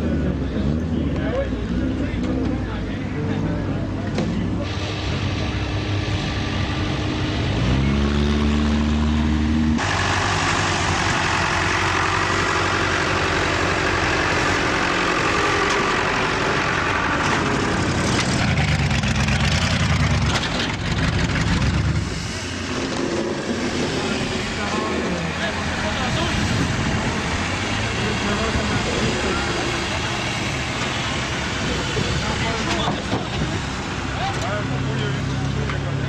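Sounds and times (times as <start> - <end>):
car engines running: 0.0 - 36.0
crowd noise: 0.0 - 36.0
engine revving: 0.0 - 36.0.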